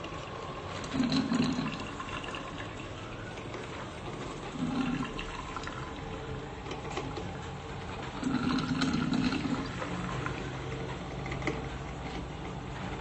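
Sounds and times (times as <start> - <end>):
coffee maker gurgling: 0.0 - 13.0.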